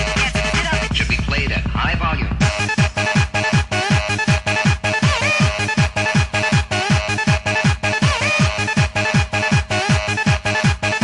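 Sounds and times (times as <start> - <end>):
pounding kick drum: 0.0 - 11.0.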